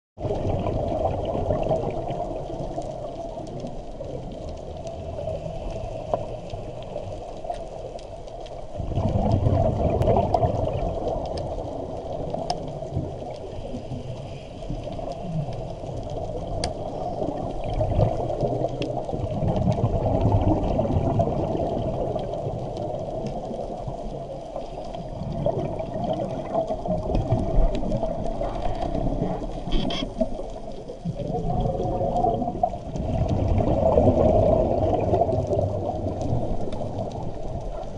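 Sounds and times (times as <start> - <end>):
regulator bubbles gurgling: 0.2 - 37.9
rush of water: 0.2 - 37.9.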